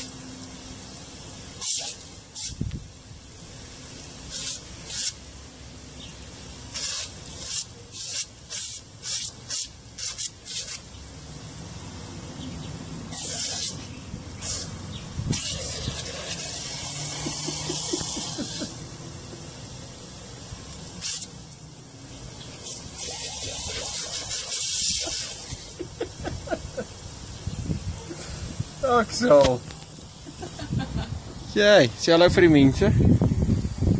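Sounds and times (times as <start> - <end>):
bursts of water spray: 0.0 - 33.9
sprinkler water jet hissing: 0.0 - 33.9.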